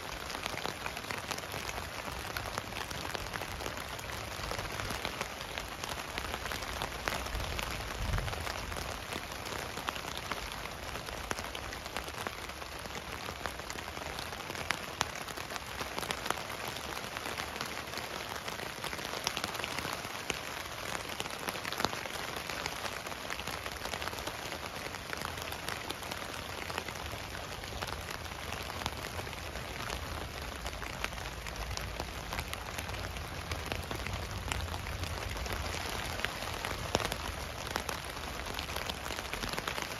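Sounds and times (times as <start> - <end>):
rain on tent fabric: 0.0 - 39.9.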